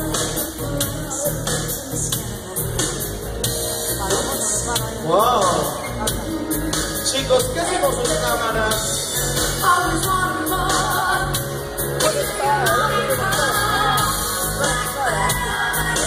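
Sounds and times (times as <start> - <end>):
pop music with singing: 0.0 - 16.0.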